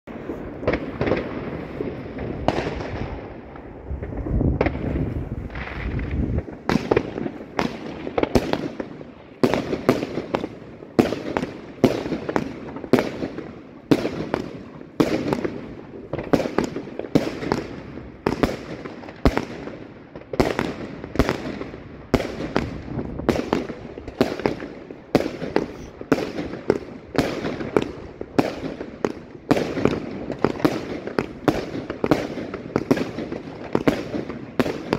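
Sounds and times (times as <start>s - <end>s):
firework bangs: 0.1s - 34.9s.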